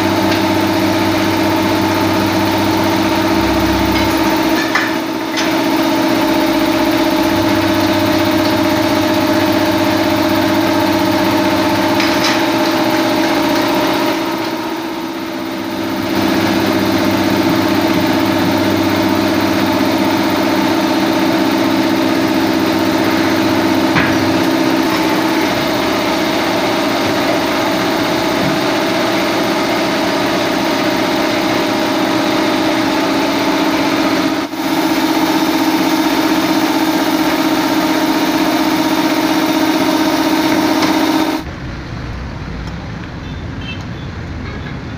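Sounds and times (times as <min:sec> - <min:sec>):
machine motor drone: 0:00.0 - 0:41.8.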